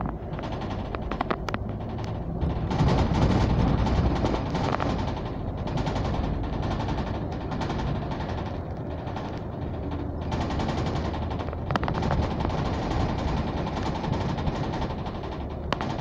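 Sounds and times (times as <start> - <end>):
bus body rattling: 0.0 - 16.0
bus engine drone: 0.0 - 16.0.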